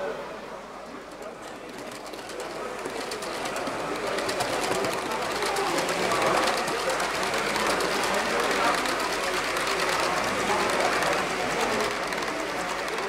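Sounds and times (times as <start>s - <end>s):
faint voices: 0.0s - 13.0s
model train running past: 0.0s - 13.0s.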